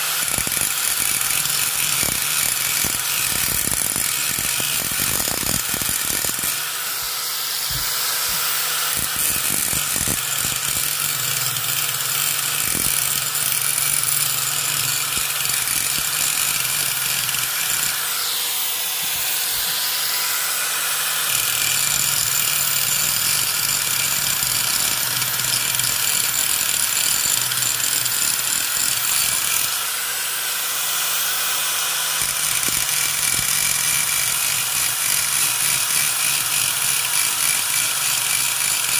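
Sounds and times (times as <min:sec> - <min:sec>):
angle grinder grinding metal: 0:00.0 - 0:38.9.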